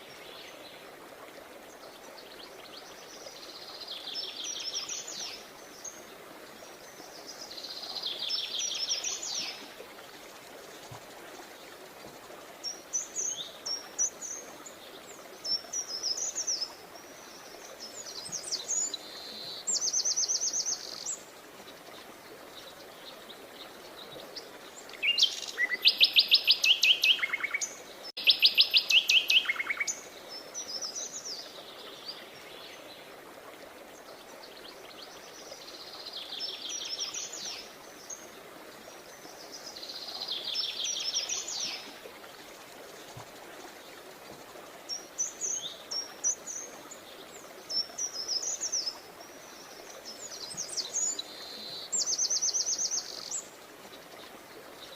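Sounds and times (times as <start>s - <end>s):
faint steady hiss: 0.0s - 54.9s
songbirds singing: 1.7s - 9.8s, 11.6s - 54.9s.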